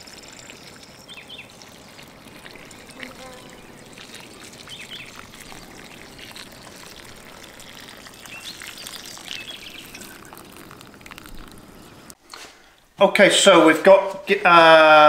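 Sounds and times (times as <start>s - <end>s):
water pouring onto soil: 0.0s - 12.2s.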